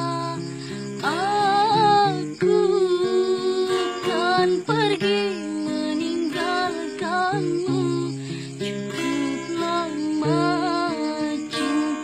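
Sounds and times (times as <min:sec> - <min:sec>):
acoustic guitar chords: 0:00.0 - 0:12.0
woman singing: 0:00.0 - 0:12.0.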